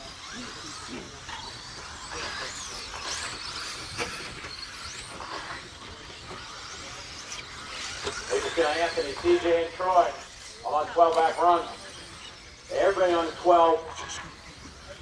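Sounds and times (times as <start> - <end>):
rc truck motors whining: 0.0 - 15.0.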